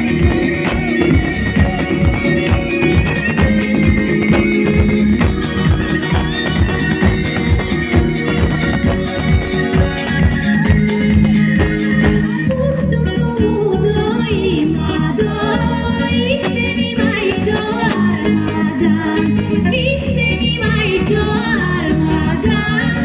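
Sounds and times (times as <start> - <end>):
folk band with guitar: 0.0 - 23.0.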